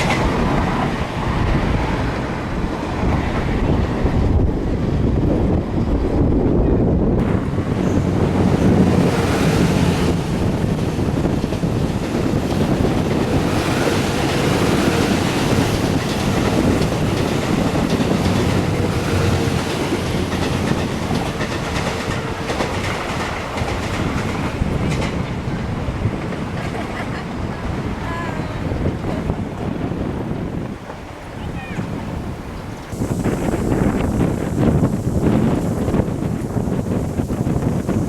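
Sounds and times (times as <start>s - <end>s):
train running on rails: 0.0s - 38.0s.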